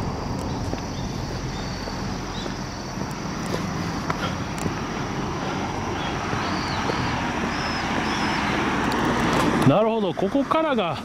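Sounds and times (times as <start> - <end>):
passing road traffic: 0.0 - 11.0.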